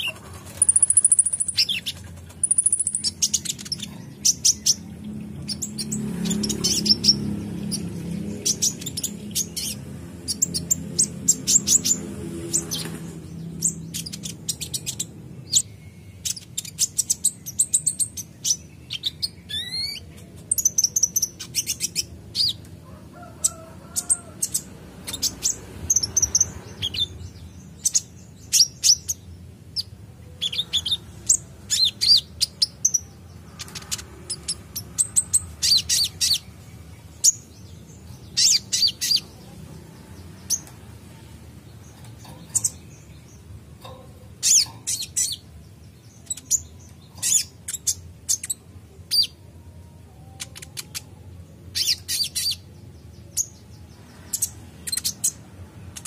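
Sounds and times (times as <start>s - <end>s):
bird high-pitched chirps and trills: 0.0s - 56.0s.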